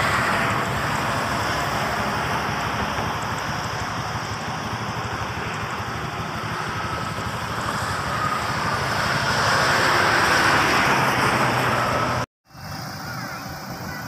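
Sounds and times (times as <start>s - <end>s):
highway traffic rushing: 0.0s - 14.0s
minivan passing close: 0.0s - 14.0s.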